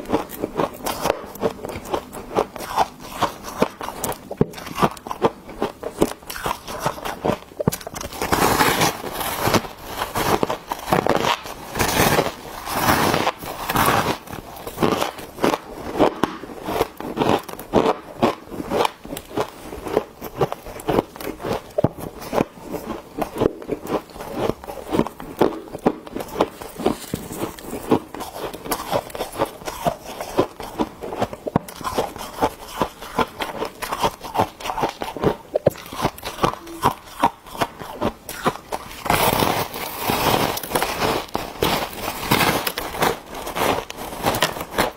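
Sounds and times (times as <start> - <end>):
chewing crunchy ice: 0.0 - 44.9.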